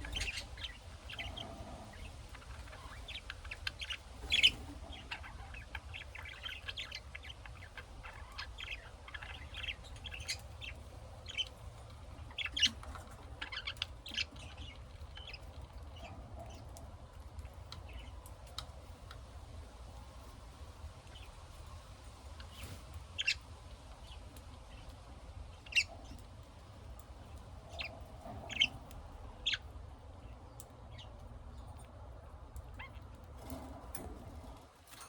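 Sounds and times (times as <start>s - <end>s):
lovebirds chirping: 0.0s - 31.9s, 32.5s - 34.6s
low steady hum: 0.0s - 35.0s.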